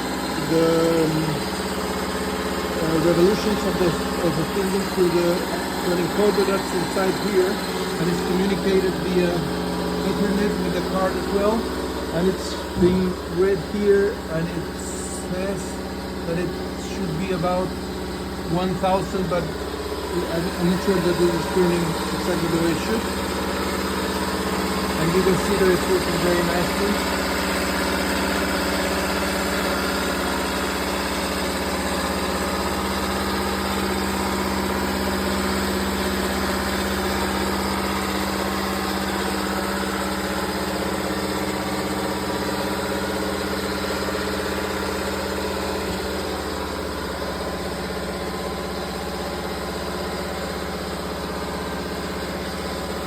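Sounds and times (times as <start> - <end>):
lathe motor hum: 0.0 - 53.0.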